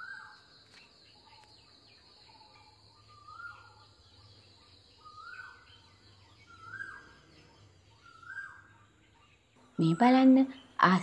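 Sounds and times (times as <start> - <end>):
bird calling: 0.0 - 11.0.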